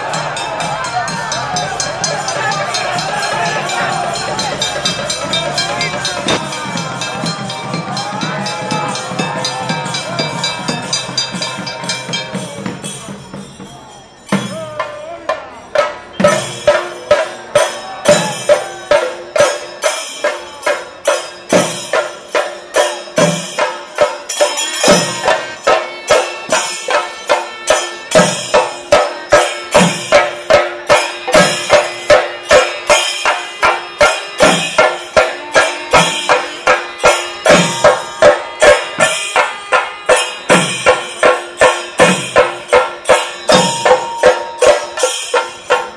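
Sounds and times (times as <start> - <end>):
drums with cymbals: 0.0 - 45.9.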